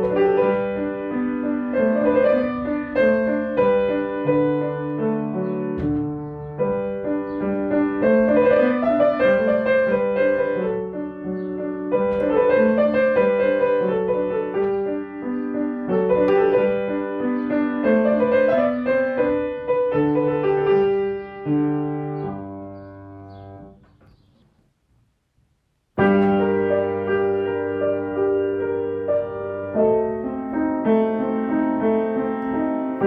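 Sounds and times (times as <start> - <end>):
gentle piano music: 0.0 - 24.5, 26.0 - 33.0.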